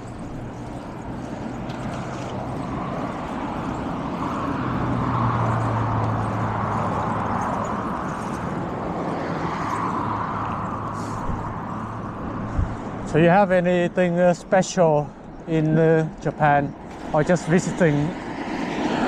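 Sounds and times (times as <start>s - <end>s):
road noise hiss: 0.0s - 19.0s
traffic hum: 0.0s - 19.0s.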